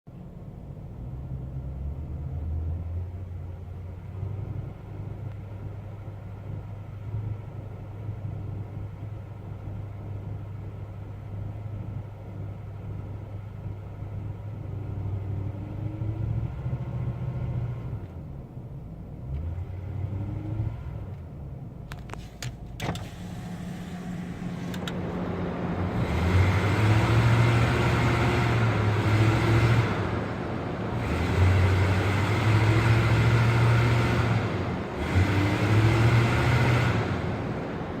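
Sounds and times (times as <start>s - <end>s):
car engine misfiring and revving: 0.7s - 38.0s.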